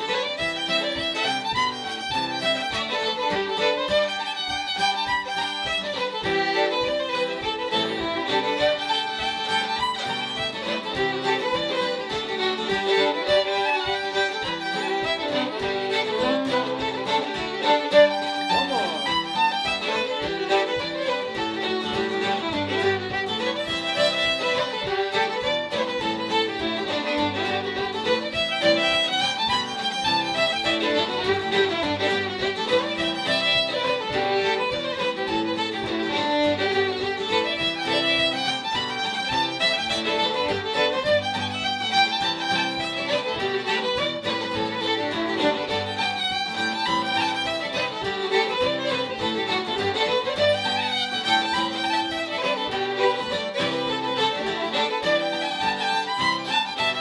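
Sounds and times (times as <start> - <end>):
acoustic guitar: 0.0 - 57.0
fiddles playing folk tune: 0.0 - 57.0.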